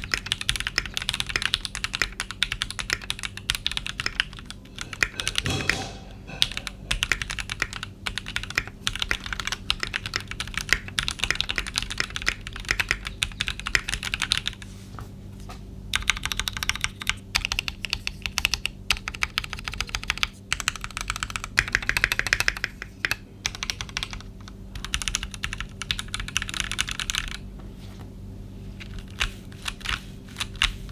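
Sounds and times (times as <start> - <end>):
mechanical keyboard typing: 0.0 - 5.5, 6.6 - 14.6, 15.9 - 27.4.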